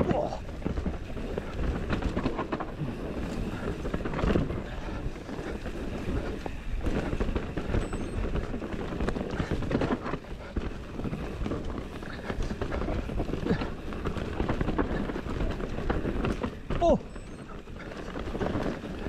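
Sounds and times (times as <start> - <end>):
bike rattling and knocking: 0.0 - 19.0
bike tyres on dirt: 0.0 - 19.0.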